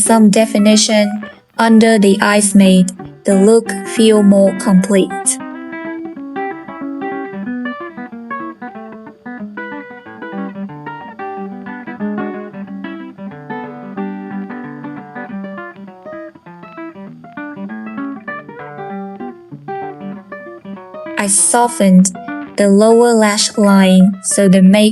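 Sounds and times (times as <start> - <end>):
acoustic guitar plucked melody: 0.0 - 24.9.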